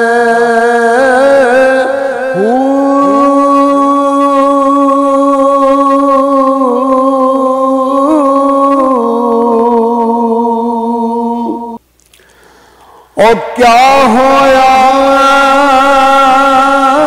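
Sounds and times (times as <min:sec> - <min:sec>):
man singing: 0:00.0 - 0:11.8, 0:13.2 - 0:17.0.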